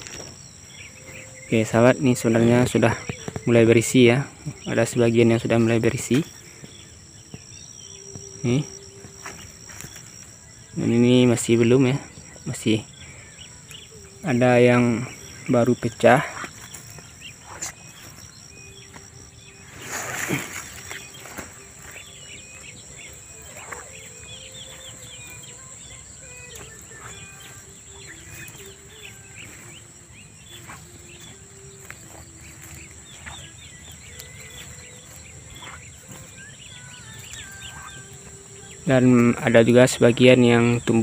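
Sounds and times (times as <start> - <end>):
high insect drone: 0.0 - 41.0
small birds chirping: 0.0 - 41.0.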